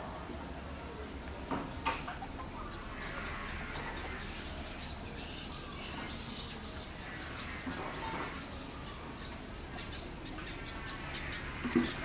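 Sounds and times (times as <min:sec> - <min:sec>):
outdoor background hiss: 0:00.0 - 0:12.0
birds chirping: 0:02.0 - 0:12.0.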